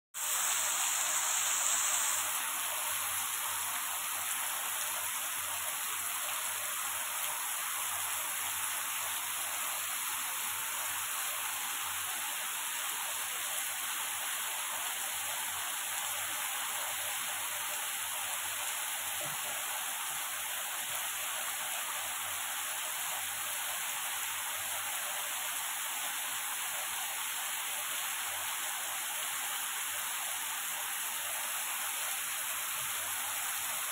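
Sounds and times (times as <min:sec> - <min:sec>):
heavy rain on pavement: 0:00.2 - 0:33.9.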